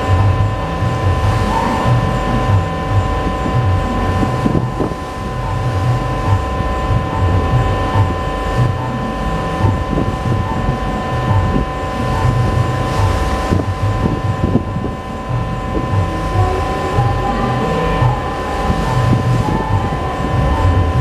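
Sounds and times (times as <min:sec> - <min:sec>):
diesel engine rumbling: 0:00.0 - 0:21.0
wind buffeting microphone: 0:00.0 - 0:21.0.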